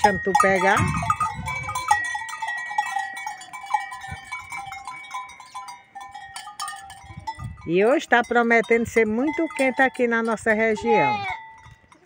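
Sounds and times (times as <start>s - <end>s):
goat bells clanking: 0.0s - 12.0s.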